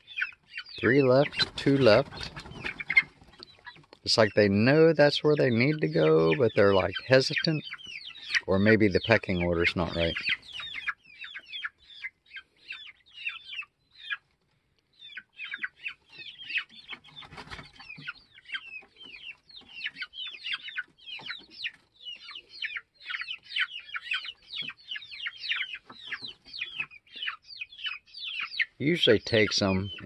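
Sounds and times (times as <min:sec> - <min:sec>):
chicks cheeping: 0:00.0 - 0:30.0.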